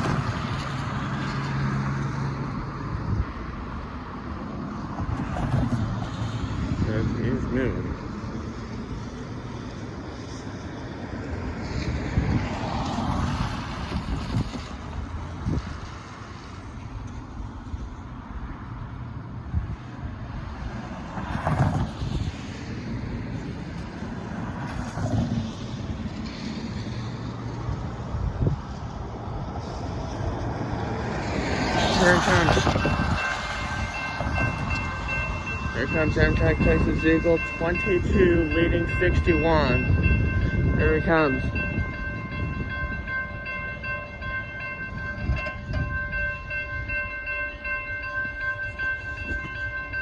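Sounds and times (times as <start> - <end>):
cars and trucks passing: 0.0 - 50.0
low traffic rumble: 0.0 - 50.0.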